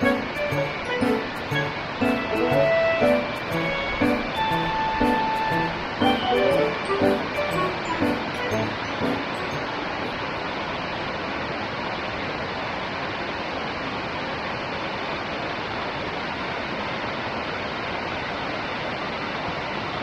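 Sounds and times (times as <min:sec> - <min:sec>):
rush of falling water: 0:00.0 - 0:20.0.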